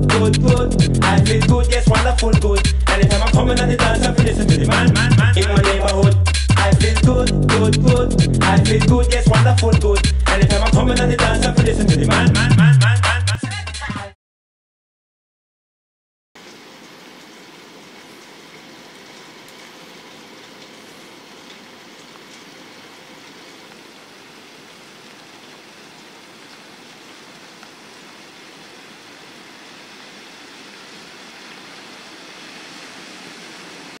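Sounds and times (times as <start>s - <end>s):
rain hissing: 0.0s - 11.6s, 16.4s - 34.0s.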